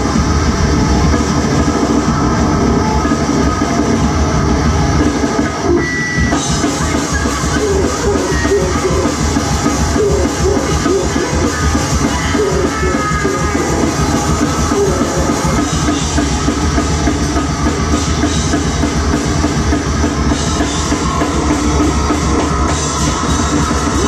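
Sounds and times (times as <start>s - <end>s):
distorted guitar: 0.0s - 24.0s
drum kit: 0.0s - 24.0s
harsh electronic noise: 0.0s - 24.0s.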